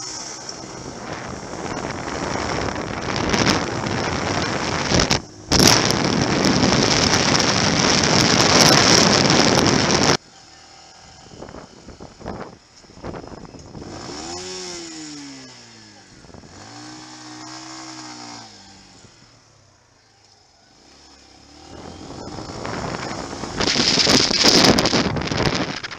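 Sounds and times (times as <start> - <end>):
wind noise on microphone: 0.0 - 10.2, 11.0 - 15.1, 16.1 - 19.2, 21.5 - 25.9
motorcycle engine revving: 0.0 - 25.9.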